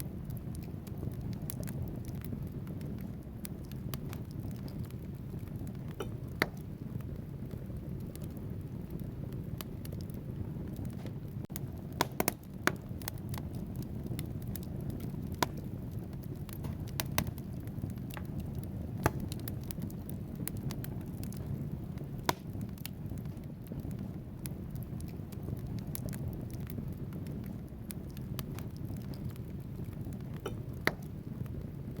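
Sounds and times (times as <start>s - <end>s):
burning logs popping: 0.0s - 32.0s
fire flames rumbling: 0.0s - 32.0s.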